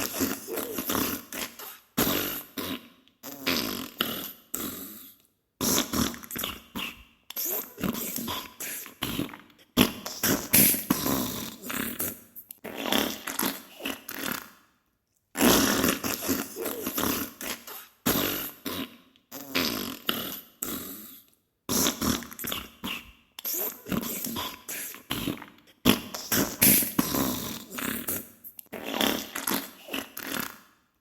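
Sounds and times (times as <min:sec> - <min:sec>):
fart noises: 0:00.0 - 0:14.6, 0:15.3 - 0:30.8.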